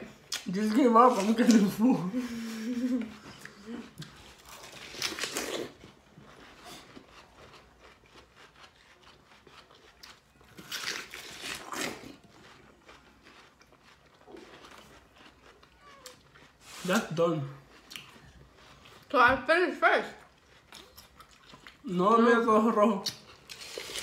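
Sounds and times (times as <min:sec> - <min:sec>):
watermelon being bitten and chewed: 0:00.1 - 0:02.1, 0:02.9 - 0:19.1, 0:20.1 - 0:24.0.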